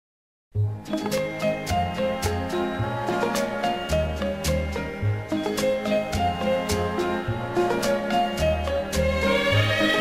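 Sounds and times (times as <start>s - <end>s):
instrumental music with beat: 0.6s - 10.0s.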